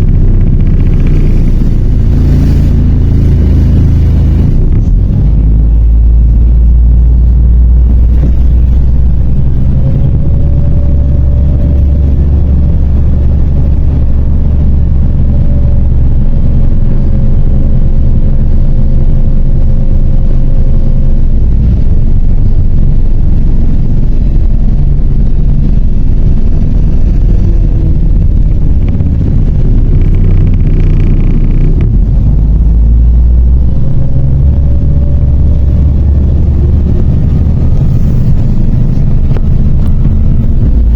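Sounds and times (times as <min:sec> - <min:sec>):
bus diesel engine rumble: 0:00.0 - 0:40.9
thin whine: 0:00.0 - 0:40.9.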